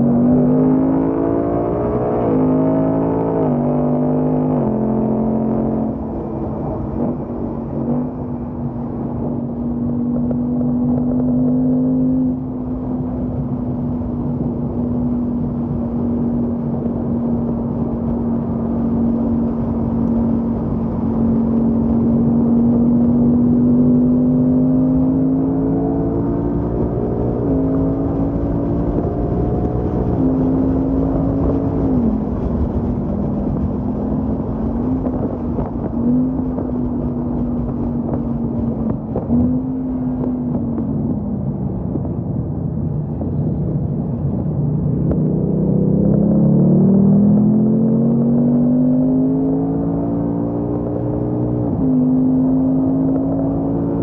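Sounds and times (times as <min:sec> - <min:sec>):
car engine under load: 0:00.1 - 0:54.0
tyre and wind noise: 0:04.3 - 0:54.0.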